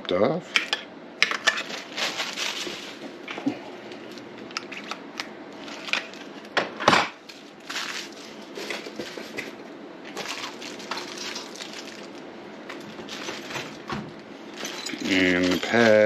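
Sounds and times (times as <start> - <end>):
plastic packaging crinkling: 1.5 - 6.6, 7.2 - 16.0.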